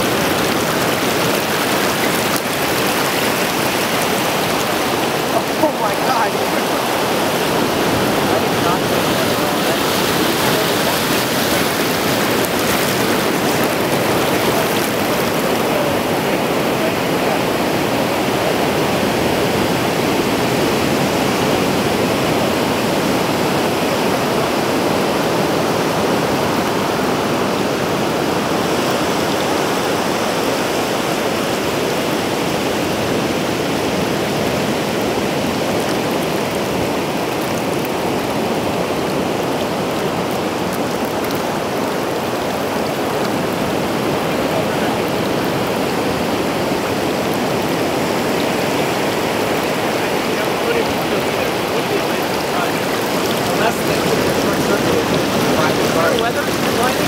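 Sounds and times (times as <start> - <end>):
shallow water rushing over sand: 0.0 - 57.0.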